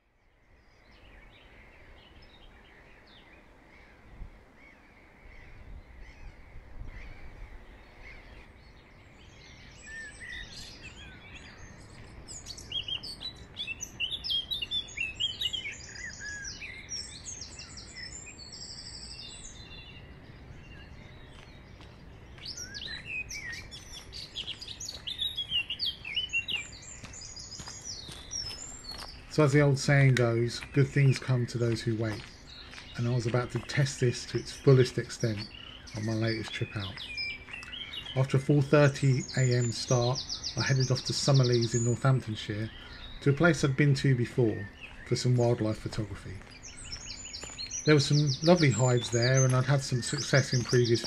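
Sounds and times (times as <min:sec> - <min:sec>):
songbirds singing: 0:00.0 - 0:51.0.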